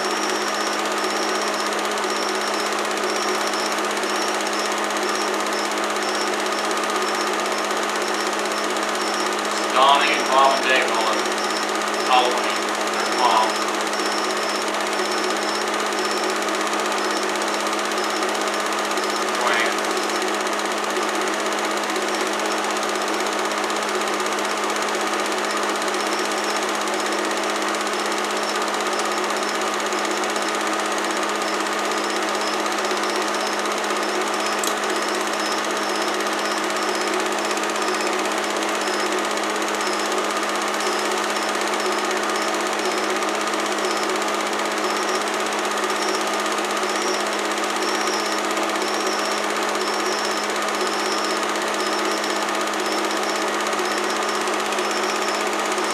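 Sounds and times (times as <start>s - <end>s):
film projector clatter: 0.0s - 55.9s.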